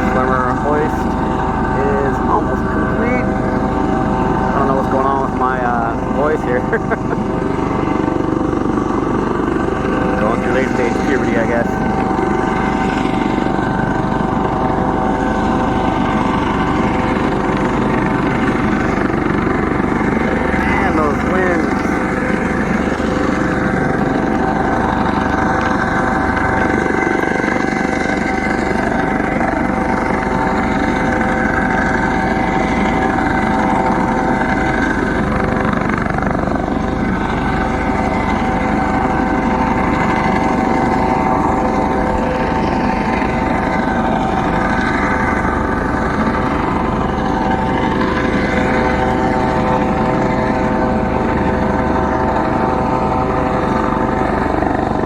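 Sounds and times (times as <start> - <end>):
helicopter hovering: 0.0 - 55.0.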